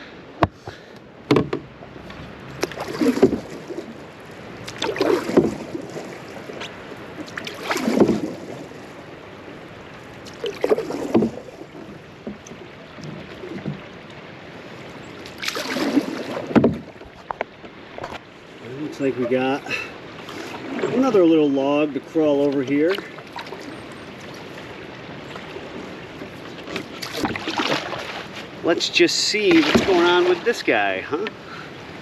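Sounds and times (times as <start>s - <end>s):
water sloshing from wading: 0.0s - 32.0s.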